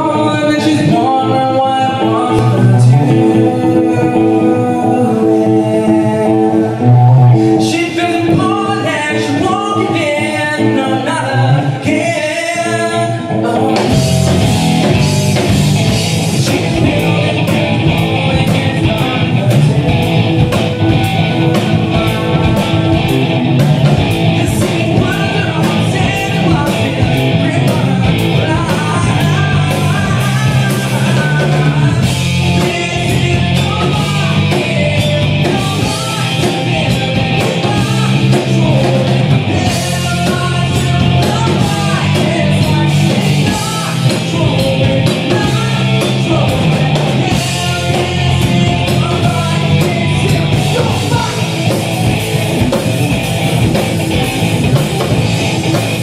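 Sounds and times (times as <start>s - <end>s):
man singing: 0.0s - 51.9s
electric guitar: 0.0s - 56.0s
rock band with drums: 0.0s - 56.0s.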